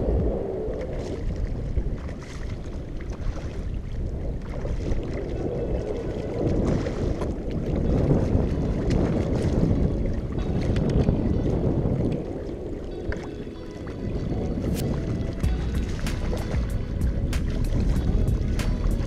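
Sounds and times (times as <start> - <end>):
water lapping and sloshing: 0.0 - 19.0
wind buffeting microphone: 0.0 - 19.0.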